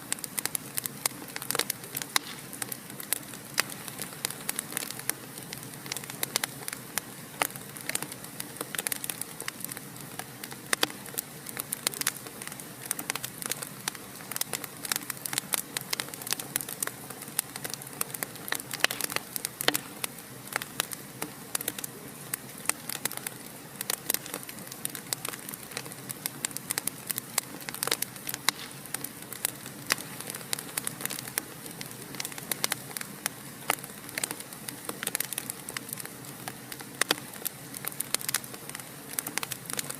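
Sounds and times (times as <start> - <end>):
soft steady hiss: 0.0 - 39.9
wood fire crackling and popping: 0.0 - 39.9.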